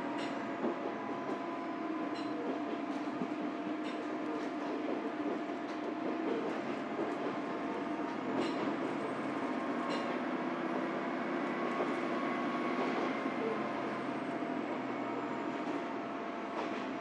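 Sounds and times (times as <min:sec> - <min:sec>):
railcar rumbling on track: 0:00.0 - 0:17.0.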